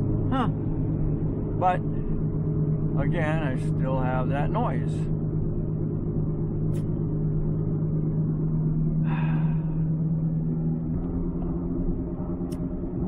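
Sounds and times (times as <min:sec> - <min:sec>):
low humming from car: 0:00.0 - 0:13.0
road noise: 0:00.0 - 0:13.0.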